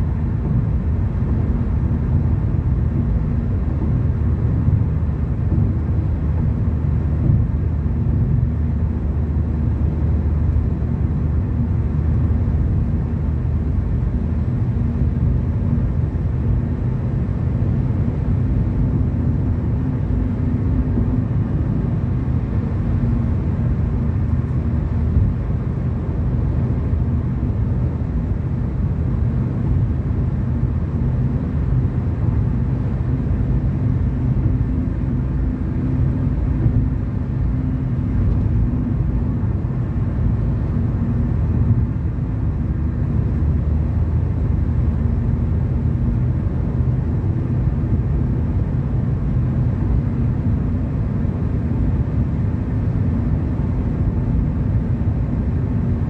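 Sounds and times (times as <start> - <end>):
car road and engine rumble: 0.0 - 56.0
faint hum: 0.0 - 56.0.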